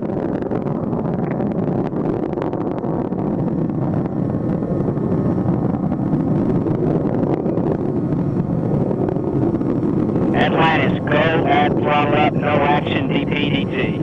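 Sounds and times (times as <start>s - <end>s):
deep rushing rocket roar: 0.0s - 14.0s.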